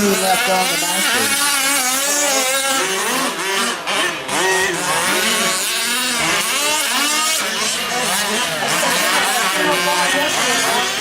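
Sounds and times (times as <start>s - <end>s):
small two-stroke engines revving: 0.0s - 11.0s.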